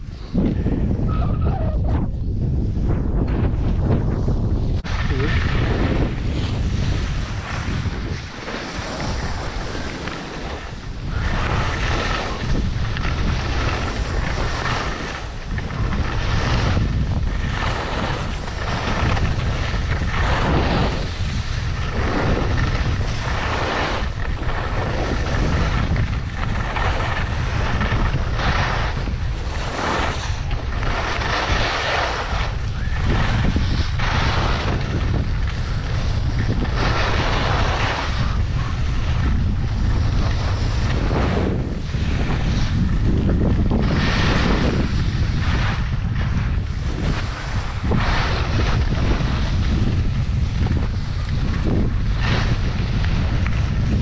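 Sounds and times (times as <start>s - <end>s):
skis scraping on snow: 0.0s - 1.1s, 2.1s - 54.0s
wind buffeting microphone: 0.0s - 54.0s.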